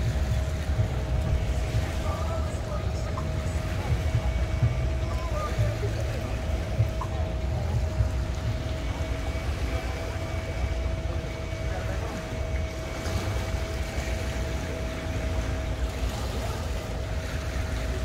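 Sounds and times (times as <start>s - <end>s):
personal watercraft idling: 0.0s - 18.0s.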